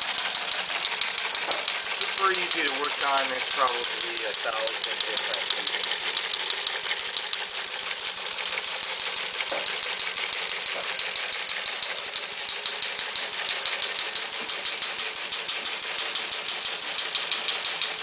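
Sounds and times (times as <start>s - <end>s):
teleprinter clattering: 0.0s - 18.0s.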